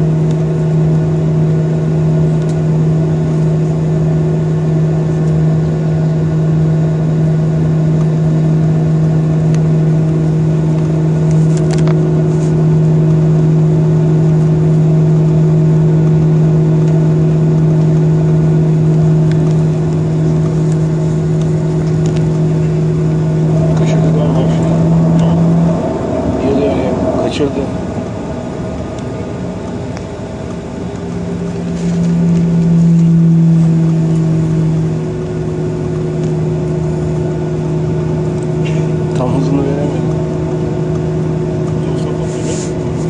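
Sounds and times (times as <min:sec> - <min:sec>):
jet engines idling drone: 0:00.0 - 0:43.0.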